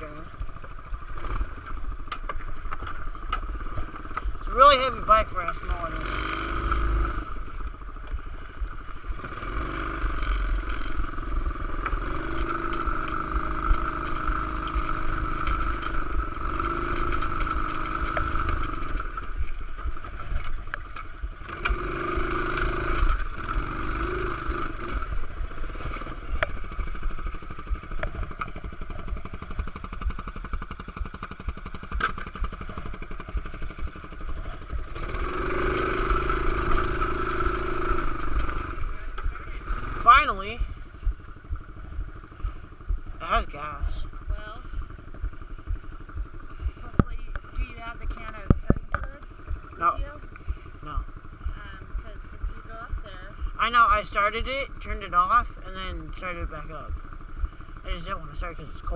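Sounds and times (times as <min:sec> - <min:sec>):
pit bike engine running unevenly: 0:00.0 - 0:58.9.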